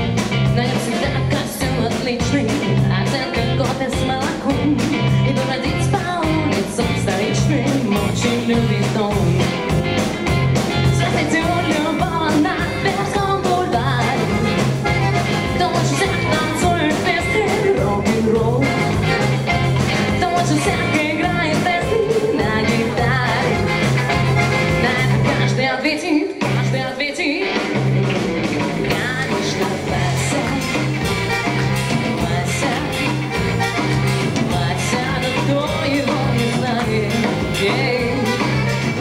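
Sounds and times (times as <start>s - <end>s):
accordion: 0.0s - 25.6s, 27.8s - 39.0s
bass guitar: 0.0s - 39.0s
drums: 0.0s - 39.0s
electric guitar: 0.0s - 39.0s
woman singing: 0.3s - 9.8s, 10.7s - 27.8s, 28.8s - 39.0s.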